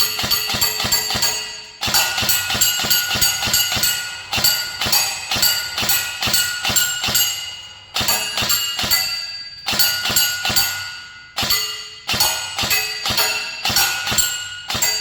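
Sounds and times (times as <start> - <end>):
airsoft rifle shots: 0.0 - 15.0
metal target ringing: 0.0 - 15.0.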